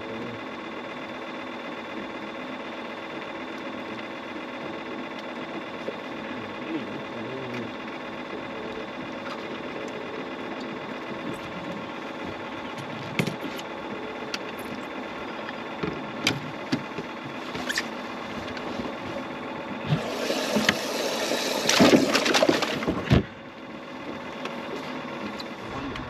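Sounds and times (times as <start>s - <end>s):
electric motor humming: 0.4s - 26.0s.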